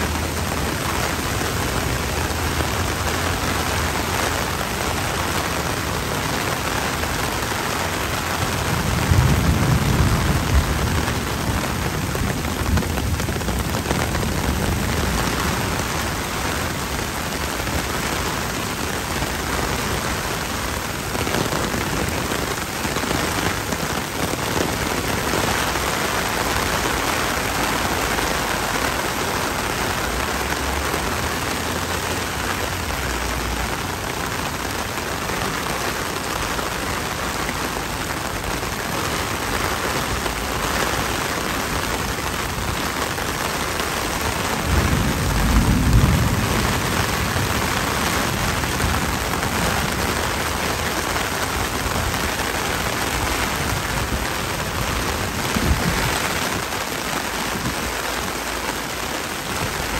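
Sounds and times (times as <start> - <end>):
heavy rain on pavement: 0.0 - 59.9
rain drumming on umbrella: 0.0 - 59.9.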